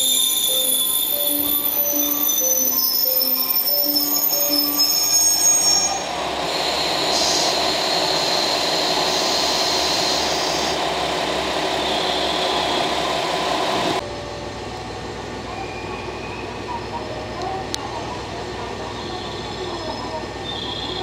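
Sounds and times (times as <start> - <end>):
diesel railcar engines idling: 0.0 - 21.0.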